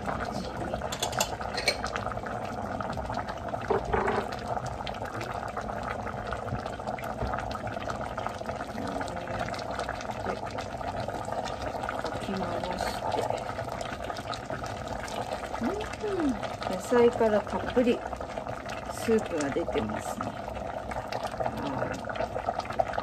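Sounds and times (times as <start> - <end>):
stew bubbling and popping: 0.0 - 23.0.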